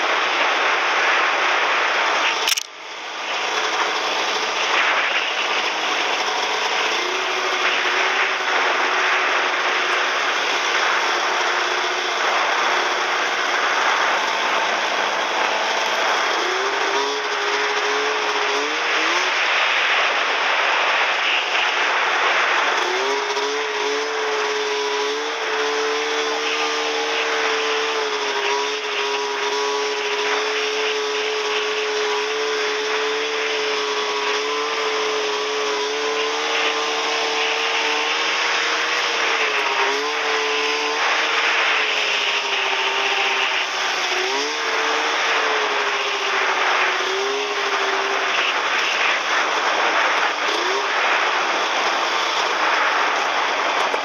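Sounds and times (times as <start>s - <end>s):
hiss of track on snow: 0.0s - 54.0s
snowmobile engine running: 0.0s - 54.0s.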